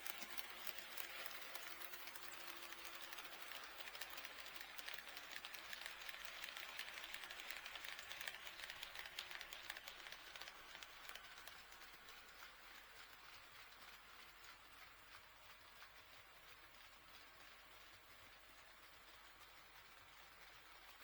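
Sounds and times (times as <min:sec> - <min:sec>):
model train wheels clicking: 0:00.0 - 0:21.0.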